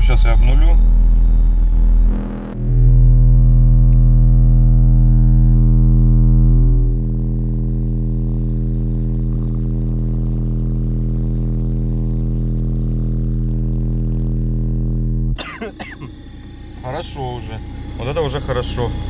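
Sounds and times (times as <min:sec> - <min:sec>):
distorted subwoofer bass drone: 0:00.0 - 0:19.0.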